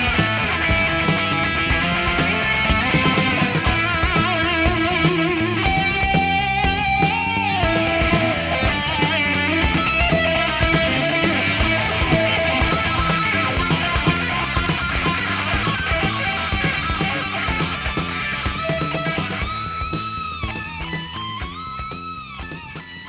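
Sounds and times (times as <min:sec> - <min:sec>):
bass guitar: 0:00.0 - 0:23.0
drum kit: 0:00.0 - 0:23.0
electric lead guitar: 0:00.0 - 0:23.0.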